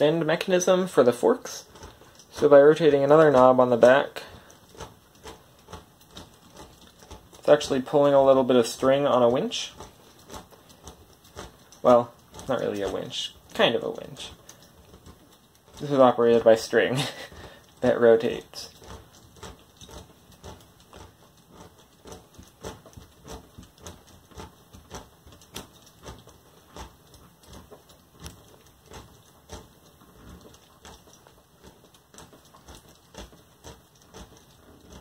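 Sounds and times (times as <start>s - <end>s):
plastic gears clicking: 0.0s - 35.0s.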